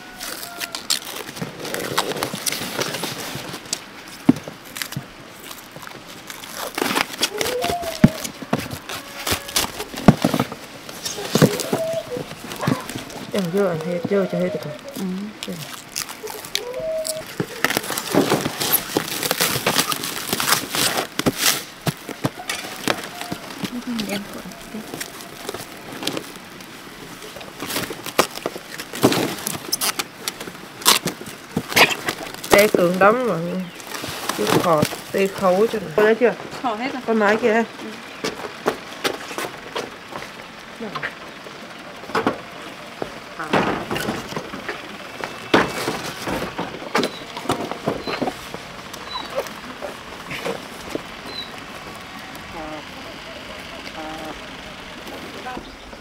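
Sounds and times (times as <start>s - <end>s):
cling film crinkling: 0.0s - 56.0s.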